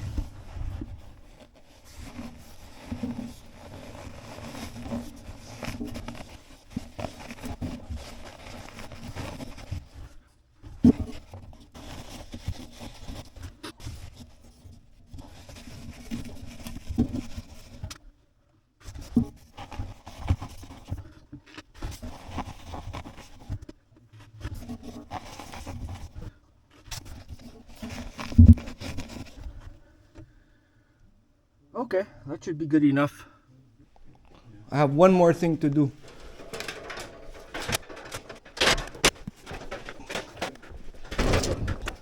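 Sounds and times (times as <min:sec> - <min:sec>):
insulation scraping and rustling: 0:00.0 - 0:18.0, 0:18.8 - 0:29.9, 0:34.1 - 0:42.0.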